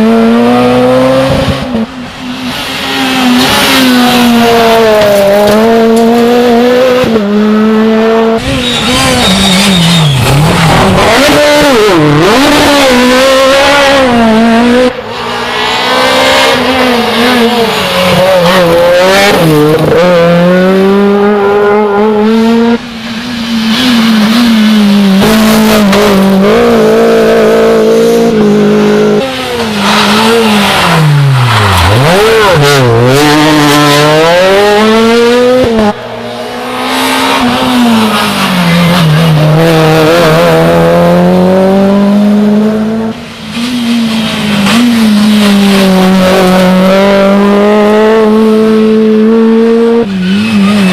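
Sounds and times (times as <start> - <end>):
rally car engines at full throttle: 0.0 - 50.9.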